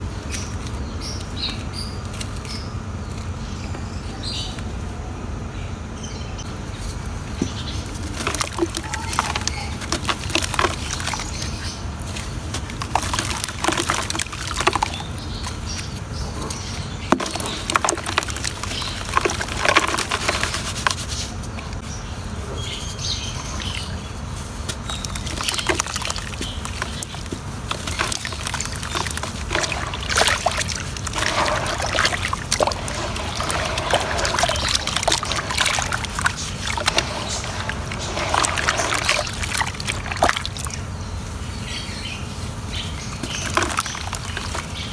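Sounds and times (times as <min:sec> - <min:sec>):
water sloshing and trickling: 0:06.4 - 0:44.9
cement crackling in water: 0:07.0 - 0:41.7, 0:42.5 - 0:44.9.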